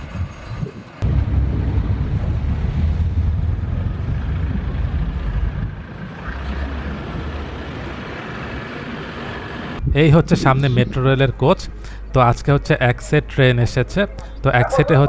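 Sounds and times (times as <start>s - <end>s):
truck diesel engine rumbling: 1.0s - 15.0s.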